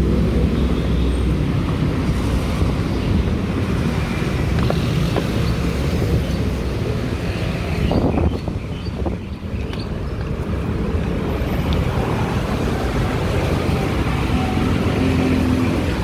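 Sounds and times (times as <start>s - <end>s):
traffic engine and tyre noise: 0.0s - 16.0s
wind on microphone: 1.5s - 16.0s.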